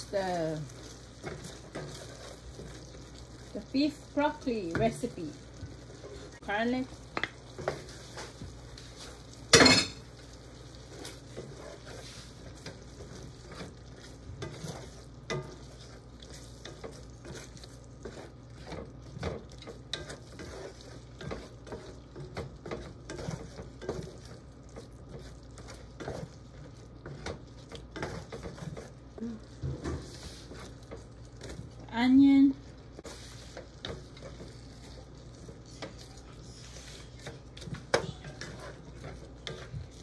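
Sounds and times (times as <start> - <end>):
food sizzling: 0.0 - 40.0
wooden spatula scraping pan: 0.0 - 40.0.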